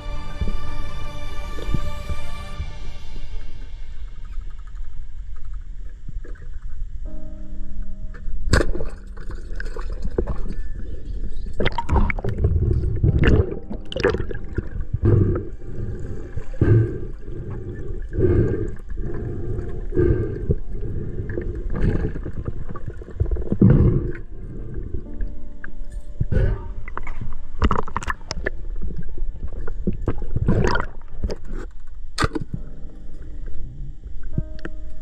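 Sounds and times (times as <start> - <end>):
underwater water gurgling and sloshing: 3.3 - 35.0.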